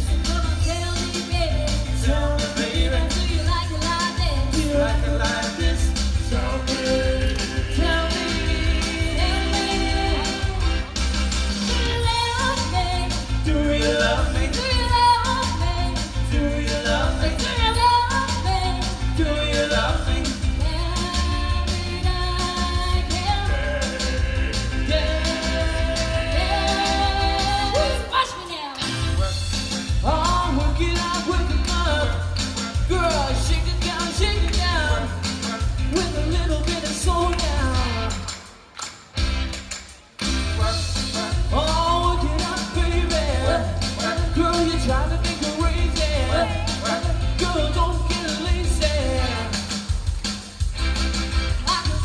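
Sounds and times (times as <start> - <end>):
heavy bass accompaniment: 0.0 - 28.1, 28.8 - 38.3, 39.2 - 52.0
soul song with band: 0.0 - 38.4, 40.2 - 52.0
singers with vibrato: 0.0 - 38.7, 40.5 - 50.0.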